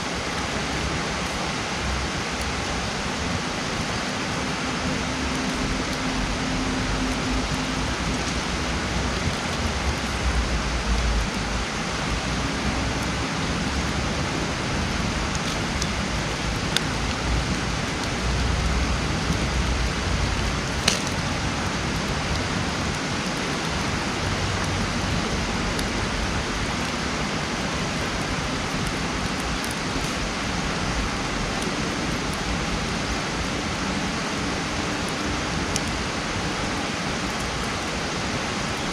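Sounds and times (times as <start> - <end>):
campfire hissing: 0.0 - 38.9
wood crackling: 0.0 - 38.9.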